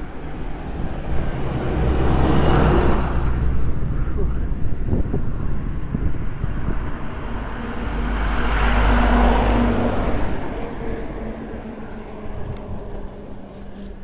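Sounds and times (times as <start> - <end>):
vehicle passing on road: 0.0 - 14.0.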